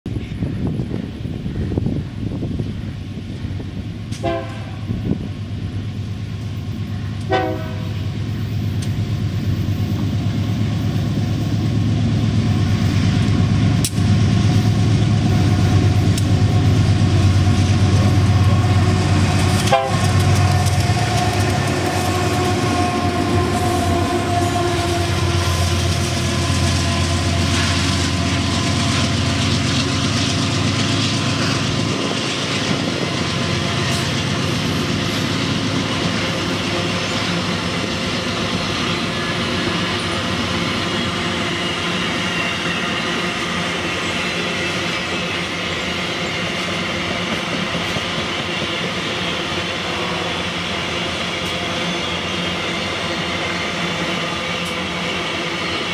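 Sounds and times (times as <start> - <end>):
diesel locomotives running: 0.1 - 55.9.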